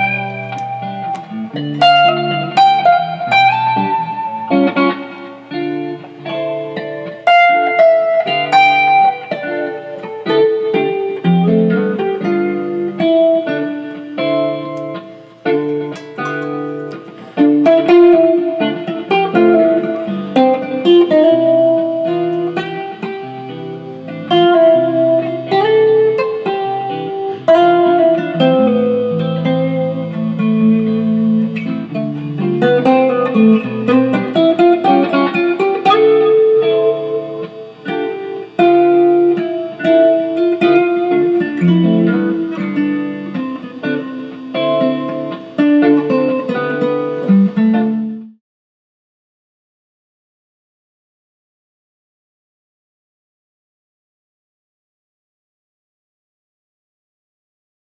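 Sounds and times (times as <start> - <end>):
guitar picked melody: 0.0 - 48.4.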